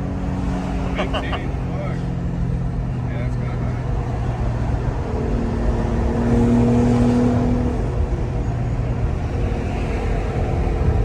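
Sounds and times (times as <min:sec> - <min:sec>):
car engine running while driving: 0:00.0 - 0:11.0.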